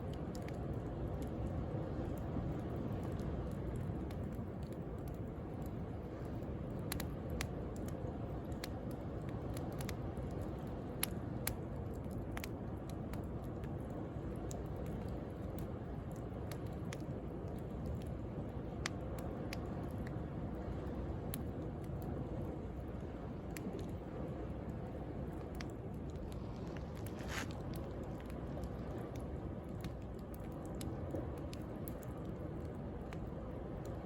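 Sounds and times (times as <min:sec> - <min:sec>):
bonfire crackling and popping: 0:00.0 - 0:34.0.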